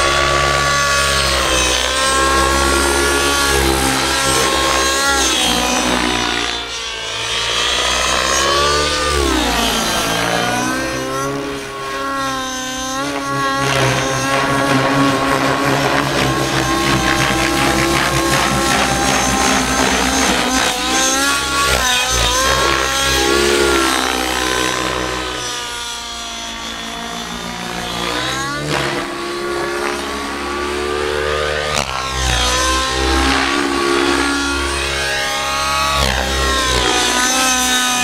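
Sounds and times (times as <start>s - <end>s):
model helicopter engine: 0.0s - 38.0s.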